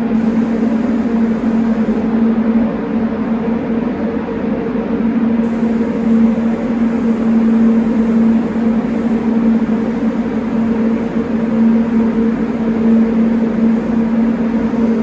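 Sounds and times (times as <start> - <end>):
extraction fan running: 0.0 - 15.0.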